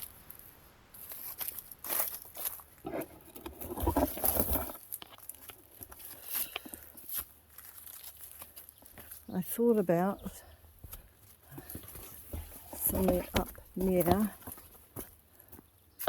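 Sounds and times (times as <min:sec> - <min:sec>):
rustling and crunching plants: 0:00.0 - 0:16.0.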